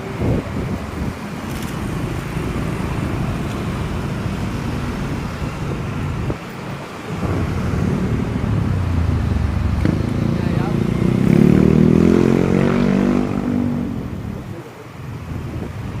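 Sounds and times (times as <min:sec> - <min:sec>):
road traffic rumble: 0:00.0 - 0:16.0
vehicle approaching: 0:00.0 - 0:16.0.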